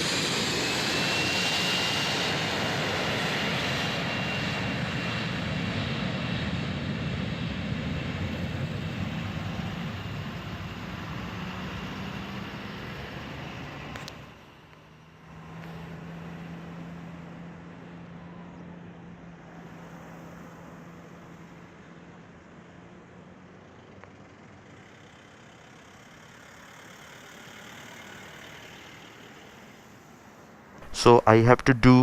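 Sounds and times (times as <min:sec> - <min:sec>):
airliner engines at takeoff: 0:00.0 - 0:32.0.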